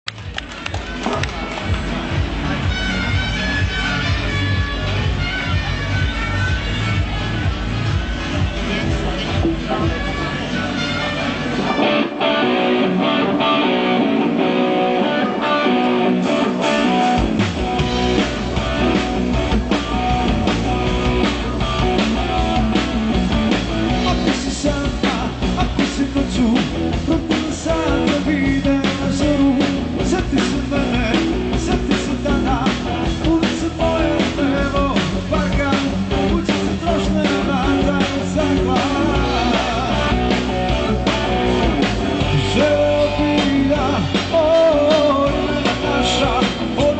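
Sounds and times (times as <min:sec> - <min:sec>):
bass and drums beat: 0:00.1 - 0:46.9
electric guitar: 0:00.1 - 0:46.9.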